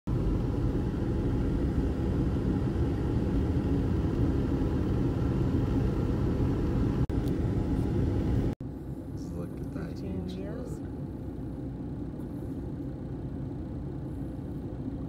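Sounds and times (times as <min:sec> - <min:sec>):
car road rumble from inside: 0:00.1 - 0:15.0.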